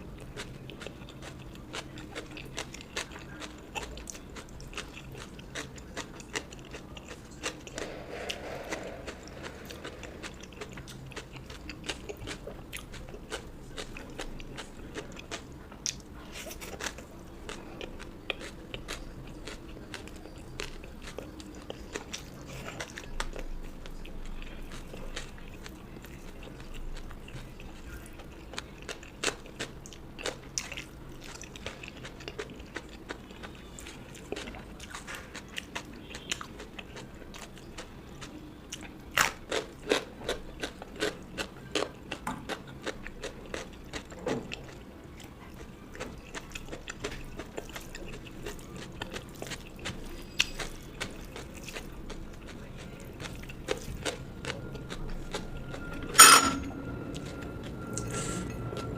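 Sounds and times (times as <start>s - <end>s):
person chewing crunchy food: 0.0s - 56.3s.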